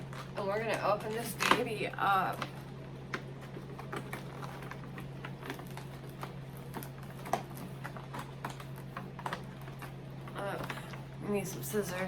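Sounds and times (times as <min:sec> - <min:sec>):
fingers picking at cardboard packaging: 0:00.0 - 0:11.0
steady low hum: 0:00.0 - 0:12.0.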